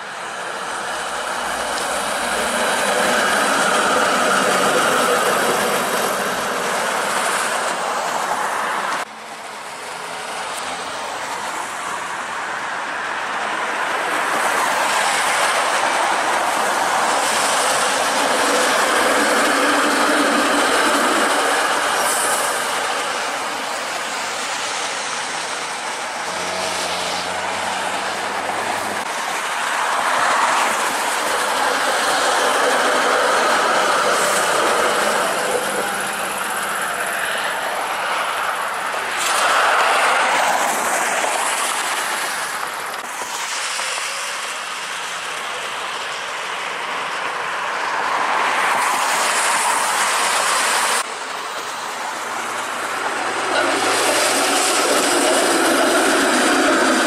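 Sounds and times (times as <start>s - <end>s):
cars hissing past on wet road: 0.0s - 57.0s
streetcar running on rails: 0.0s - 57.0s.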